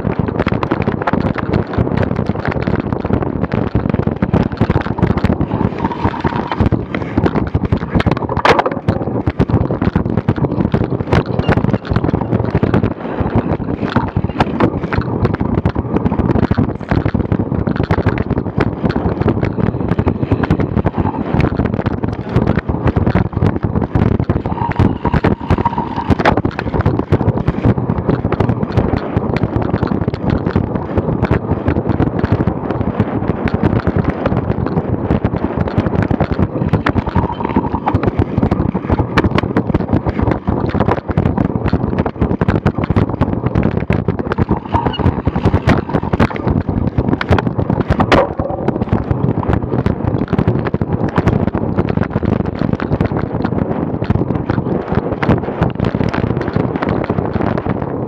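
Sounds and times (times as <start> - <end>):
bicycle bumps and rattles: 0.0 - 58.0
wind buffeting microphone: 0.0 - 58.0.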